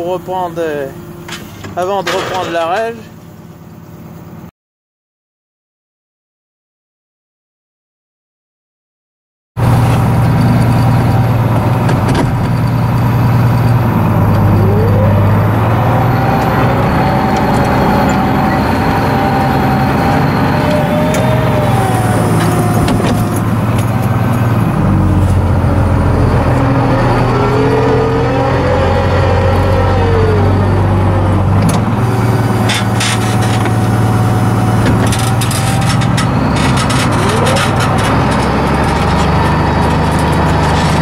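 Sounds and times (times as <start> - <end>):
tractor diesel engine under load: 0.0 - 4.5, 9.6 - 41.0.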